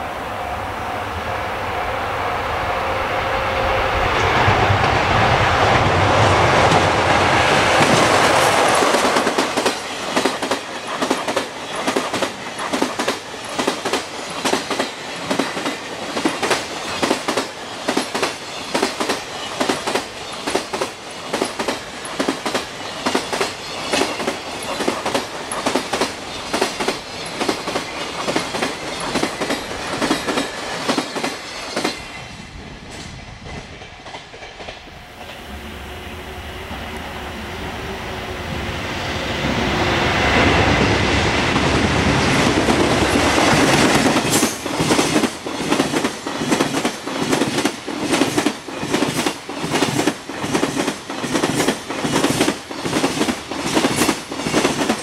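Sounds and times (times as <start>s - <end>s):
freight train passing: 0.0s - 55.0s
locomotive rushing by: 0.0s - 55.0s.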